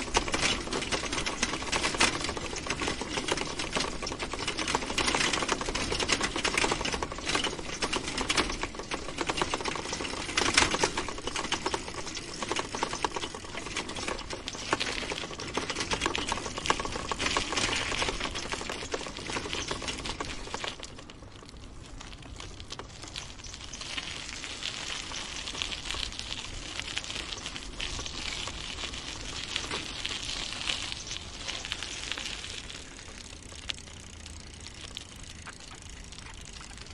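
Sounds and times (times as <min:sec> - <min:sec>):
bicycle rattling over bumps: 0:00.0 - 0:36.9.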